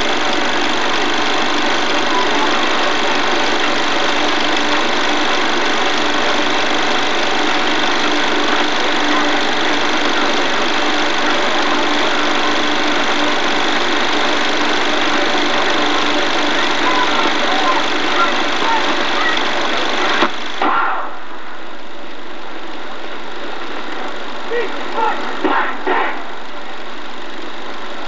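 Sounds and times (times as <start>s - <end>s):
film projector running: 0.0s - 28.0s.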